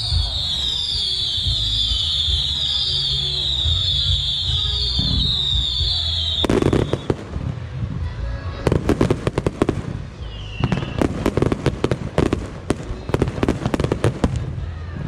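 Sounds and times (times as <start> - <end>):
firework whistle: 0.0 - 7.4, 9.0 - 14.6
fireworks bangs and crackles: 0.0 - 15.0.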